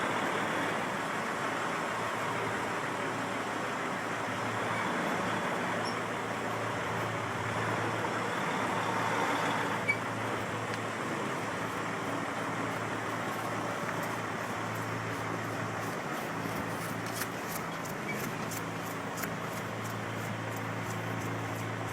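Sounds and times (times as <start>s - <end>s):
truck engine running: 0.0s - 21.9s.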